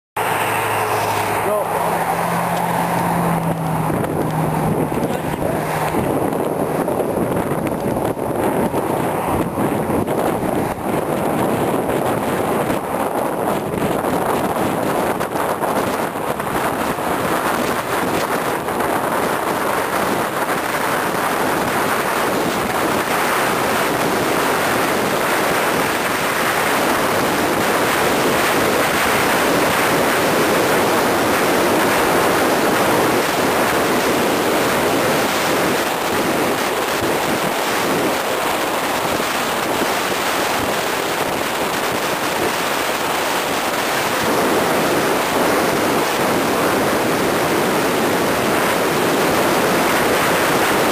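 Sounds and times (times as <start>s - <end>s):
road noise: 0.2s - 50.9s
wind roar over microphone: 0.2s - 50.9s.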